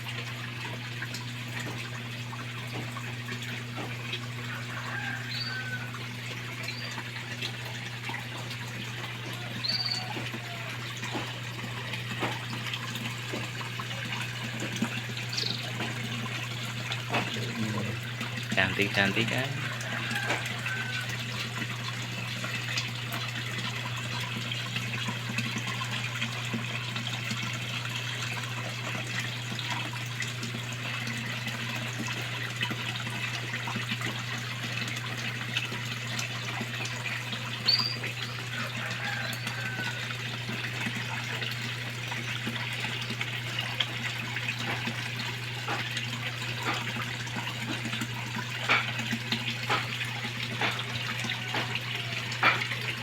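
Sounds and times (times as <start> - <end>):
water splashing into a pond: 0.0 - 53.0.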